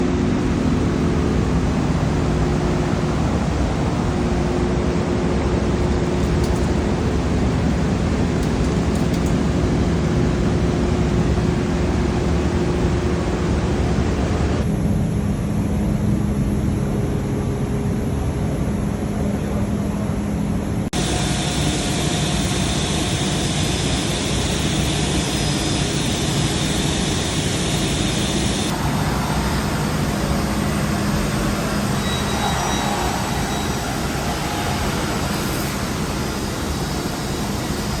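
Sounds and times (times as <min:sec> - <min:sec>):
machinery roaring with low hum: 0:00.0 - 0:38.0.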